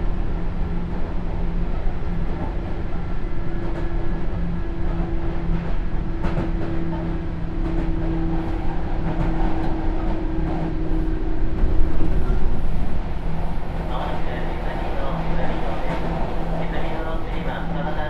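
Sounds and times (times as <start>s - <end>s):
wheel and rail rumble: 0.0s - 18.0s.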